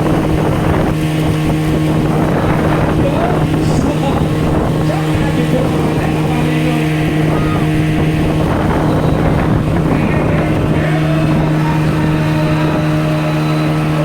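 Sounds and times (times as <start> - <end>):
boat motor droning: 0.0 - 14.0
water noise: 0.0 - 14.0
wind noise: 0.0 - 14.0.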